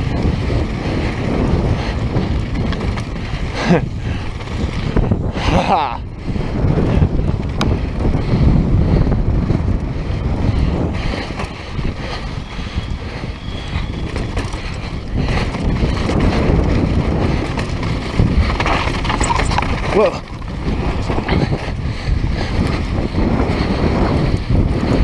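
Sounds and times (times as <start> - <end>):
bike knocking and rattling: 0.0 - 25.0
tyres rumbling on dirt trail: 0.0 - 25.0
wind buffeting microphone: 0.0 - 25.0.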